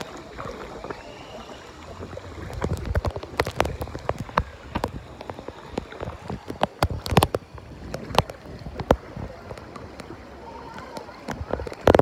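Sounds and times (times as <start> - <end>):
moving water wash: 0.0 - 12.0
water splashing and dripping: 0.0 - 12.0.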